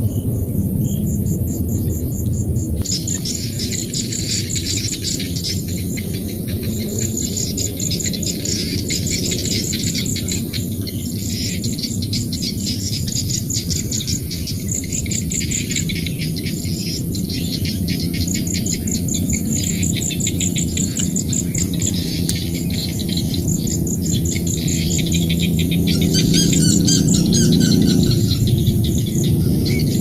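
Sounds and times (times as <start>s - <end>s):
insects chirping in rapid pulses: 0.0s - 30.0s
low steady drone: 0.0s - 30.0s
bird calls: 2.8s - 30.0s.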